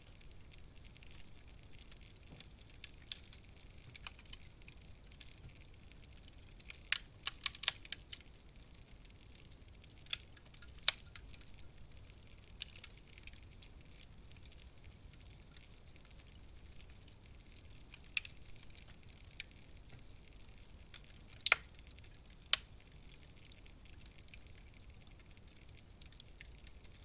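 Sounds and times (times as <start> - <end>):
low hiss: 0.0 - 27.0
wood fire crackling: 0.0 - 27.0.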